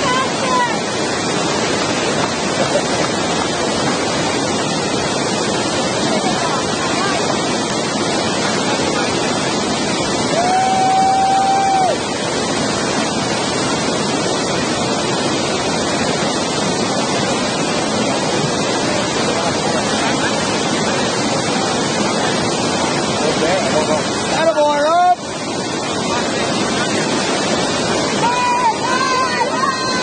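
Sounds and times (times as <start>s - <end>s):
whitewater rapids rushing: 0.0s - 30.0s.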